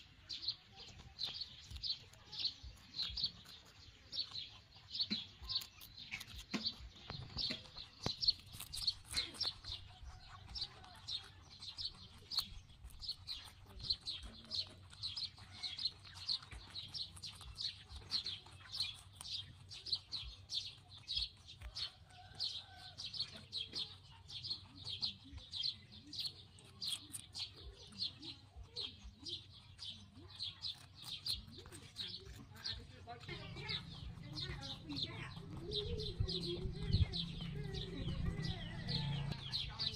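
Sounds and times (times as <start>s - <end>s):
bird chirping: 0.0s - 39.9s
rabbits crunching cucumber: 0.0s - 39.9s.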